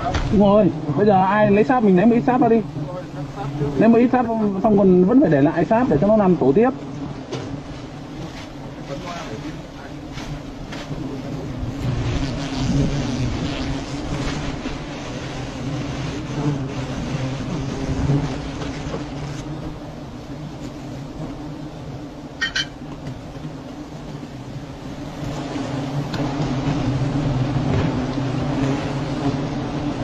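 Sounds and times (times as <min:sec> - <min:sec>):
bee swarm buzzing: 0:00.0 - 0:30.0.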